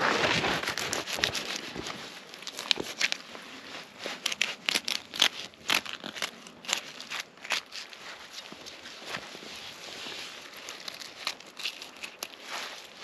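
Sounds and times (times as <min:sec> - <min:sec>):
knife crunching frozen fish: 0:00.2 - 0:08.8, 0:10.2 - 0:13.0.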